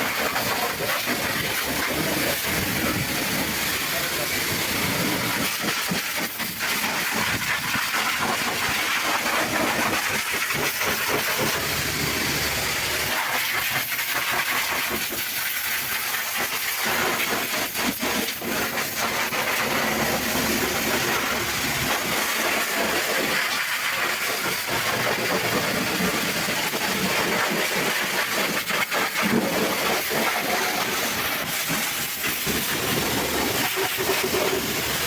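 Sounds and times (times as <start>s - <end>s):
pressure washer spraying water: 0.0s - 35.0s.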